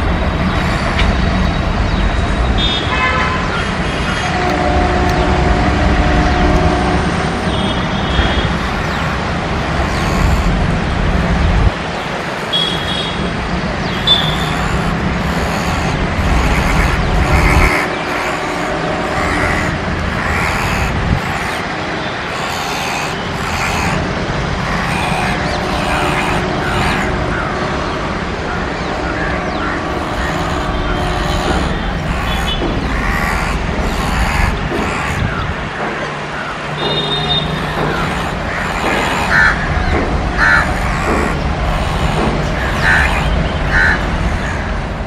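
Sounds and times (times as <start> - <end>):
train wheels and engine rumbling: 0.0 - 45.0.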